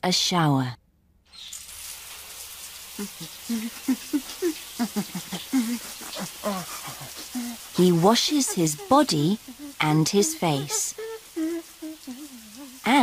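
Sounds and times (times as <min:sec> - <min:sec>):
shower water spraying: 0:01.4 - 0:13.0.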